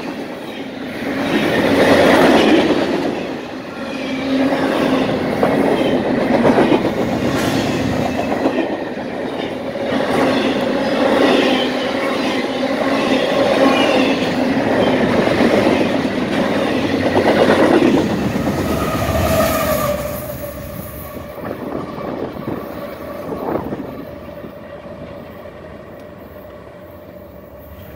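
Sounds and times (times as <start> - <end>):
freight train wheels rumbling: 0.0 - 27.9.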